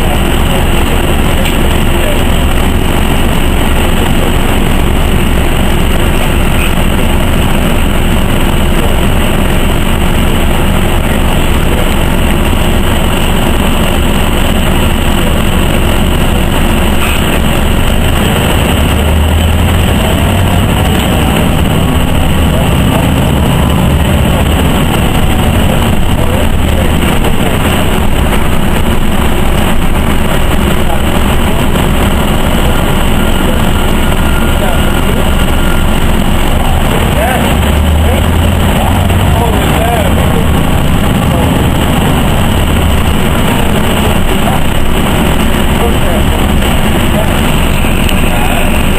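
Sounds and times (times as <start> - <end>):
bus engine: 0.0 - 48.9
road noise: 0.0 - 48.9.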